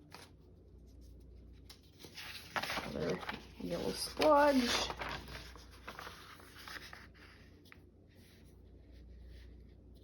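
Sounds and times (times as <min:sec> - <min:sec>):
paper scratching and rustling: 0:00.0 - 0:10.0.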